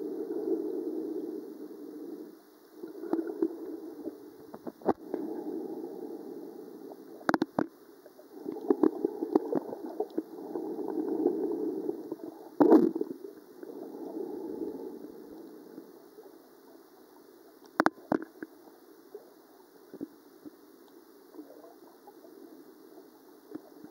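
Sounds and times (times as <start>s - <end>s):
muffled underwater churning: 0.0s - 19.4s.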